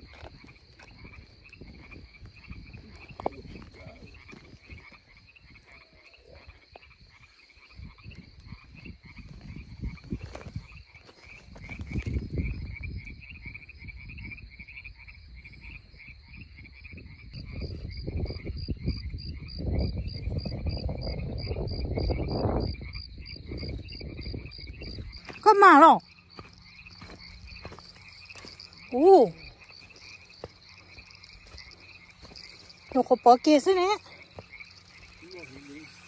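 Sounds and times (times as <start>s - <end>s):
frog chorus calling: 0.0s - 36.0s
high insect trill: 0.0s - 36.0s.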